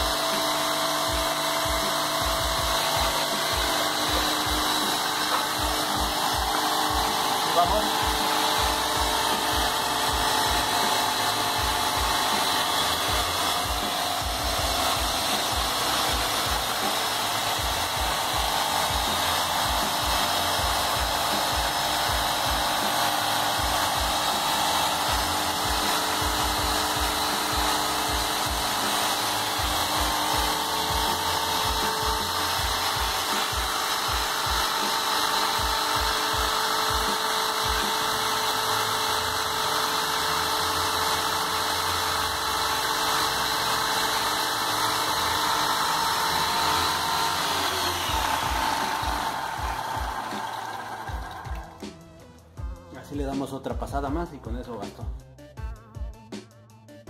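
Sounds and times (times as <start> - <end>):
paint sprayer pump running: 0.0 - 52.0.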